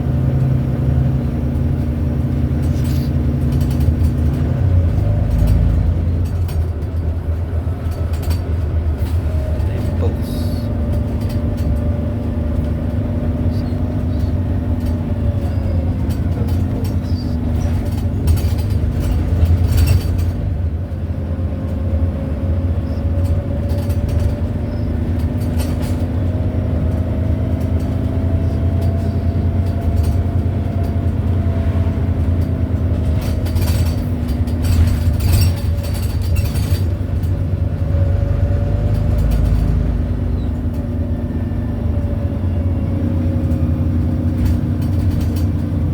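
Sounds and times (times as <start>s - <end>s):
bus engine with whining tone: 0.0s - 45.9s.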